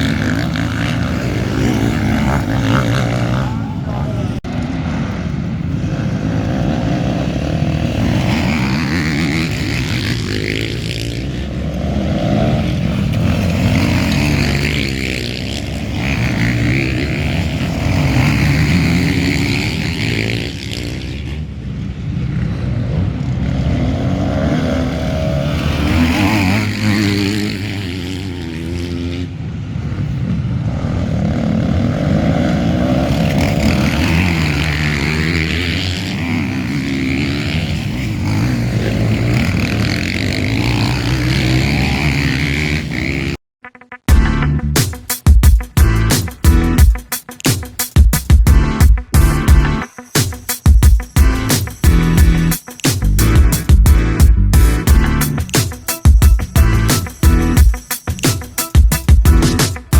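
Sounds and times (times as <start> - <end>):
motocross bike engines revving: 0.0 - 43.4, 51.1 - 59.9.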